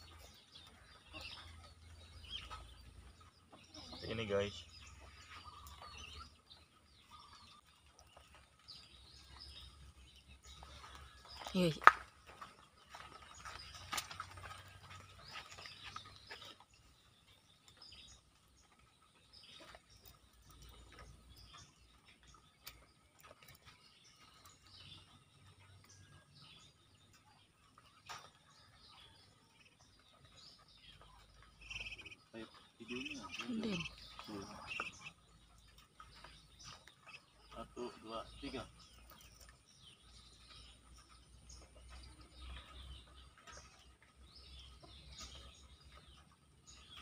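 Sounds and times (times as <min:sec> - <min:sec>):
faint bird chirps: 0:00.0 - 0:47.0.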